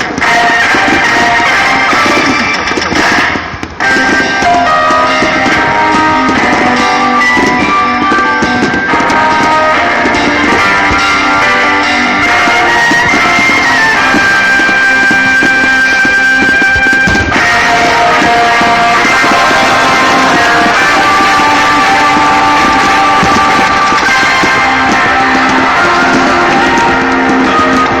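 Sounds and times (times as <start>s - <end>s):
rock music with guitar: 0.0s - 28.0s.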